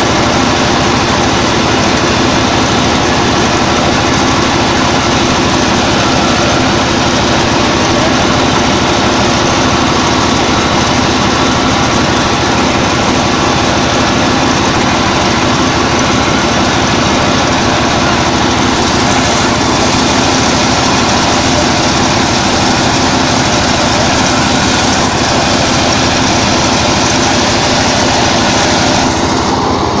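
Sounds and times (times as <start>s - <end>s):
combine harvester engine drone: 0.0s - 30.0s
machine mechanical noise: 0.0s - 30.0s.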